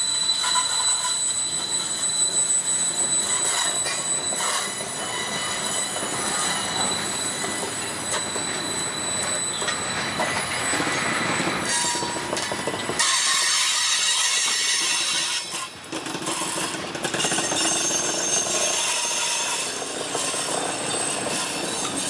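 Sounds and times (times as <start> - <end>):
freight cars rolling on rail: 0.0 - 22.0
high-pitched wheel squeal: 0.0 - 22.0.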